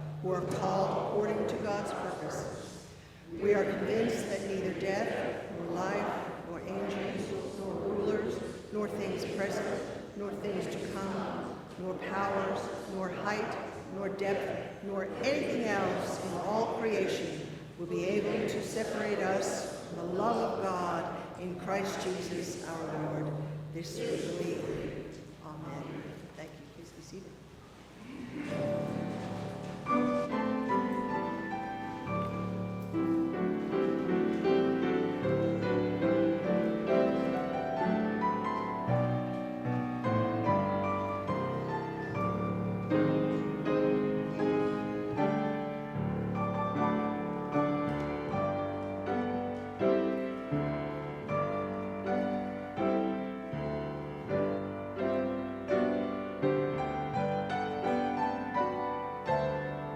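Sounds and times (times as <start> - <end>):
slow classical piano piece: 0.0 - 26.4, 27.5 - 59.9.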